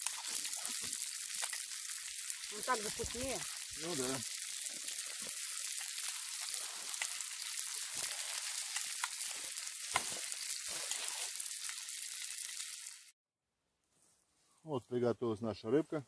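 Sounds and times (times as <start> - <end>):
fish sizzling in a frying pan: 0.0 - 13.2.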